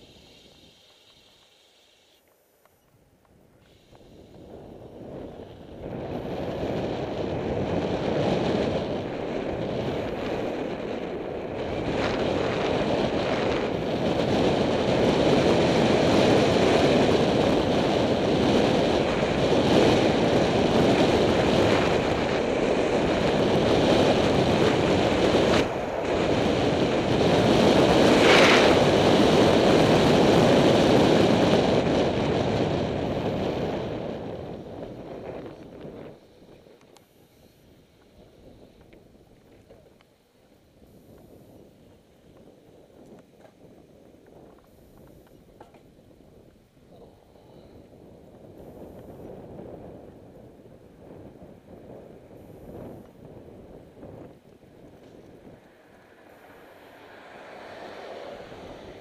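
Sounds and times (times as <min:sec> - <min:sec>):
wind rushing over microphone: 0:03.3 - 0:59.0.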